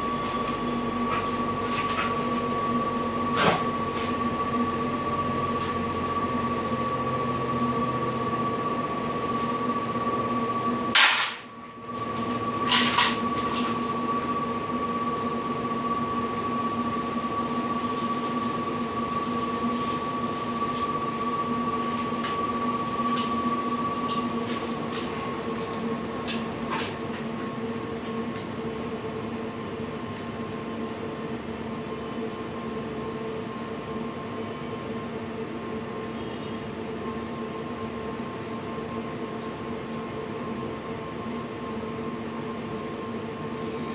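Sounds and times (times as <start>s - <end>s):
machine hum with whine: 0.0s - 43.9s.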